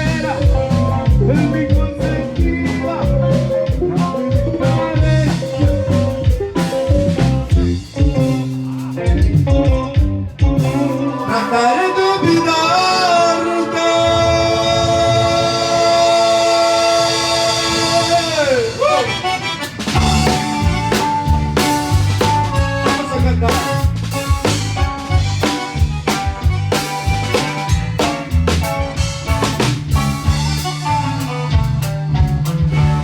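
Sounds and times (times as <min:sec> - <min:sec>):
live band music over loudspeakers: 0:00.0 - 0:33.0.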